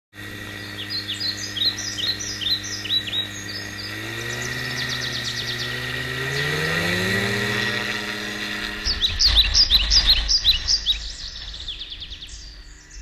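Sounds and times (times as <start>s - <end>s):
two-stroke engine running: 0.1s - 13.0s
birds chirping: 0.2s - 13.0s.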